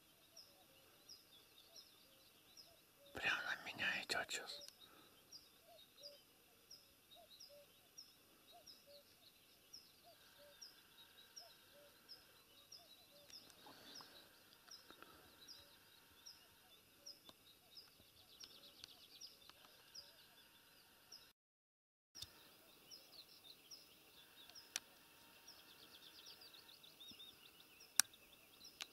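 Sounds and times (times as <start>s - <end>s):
faint meadow ambience: 0.0s - 21.3s, 22.2s - 28.9s.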